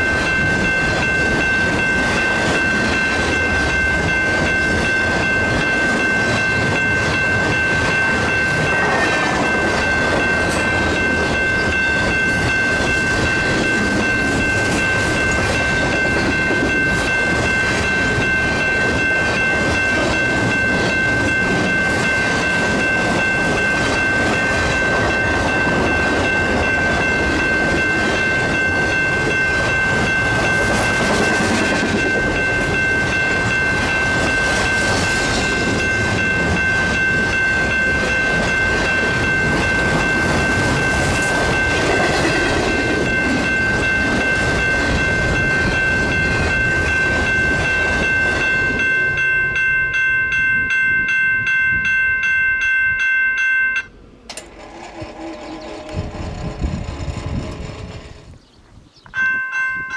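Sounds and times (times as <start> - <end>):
train wheels rumbling on rail: 0.0 - 52.3, 53.8 - 59.0.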